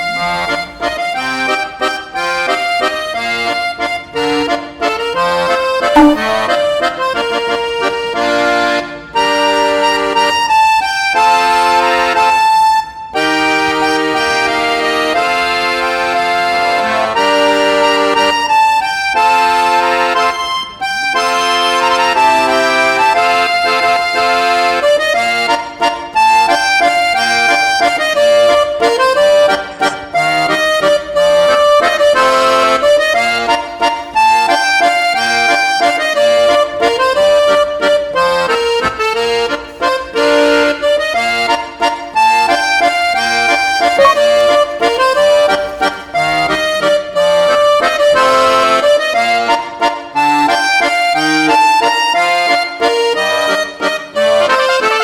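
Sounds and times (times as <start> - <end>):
lively accordion tune: 0.0 - 55.0.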